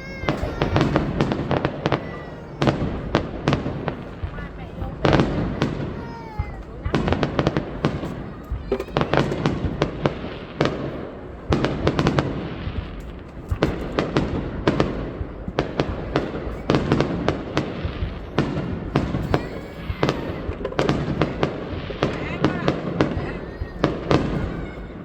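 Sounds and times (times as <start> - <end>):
fireworks bangs: 0.0 - 25.0
fireworks crackling: 0.0 - 25.0.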